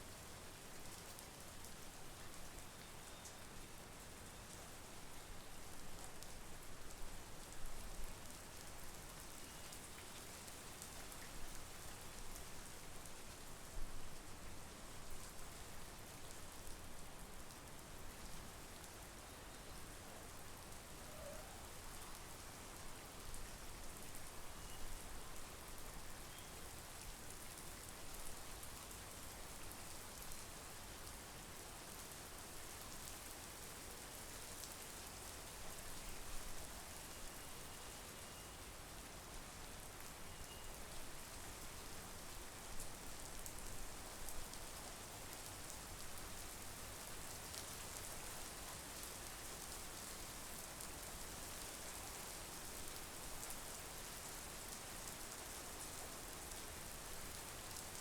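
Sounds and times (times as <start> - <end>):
rain falling on foliage: 0.0 - 58.0.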